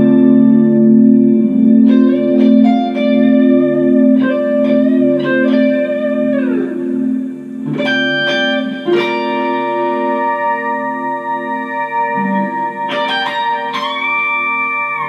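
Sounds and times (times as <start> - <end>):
looped electric guitar notes: 0.0 - 15.0
low guitar drone: 0.0 - 15.0.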